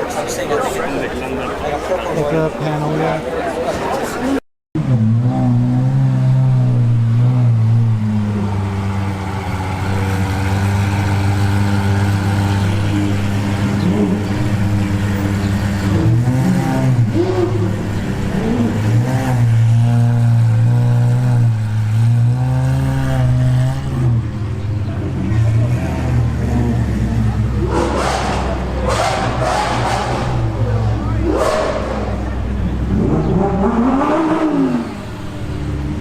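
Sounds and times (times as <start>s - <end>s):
sports car engine idling and revving: 4.8s - 36.0s.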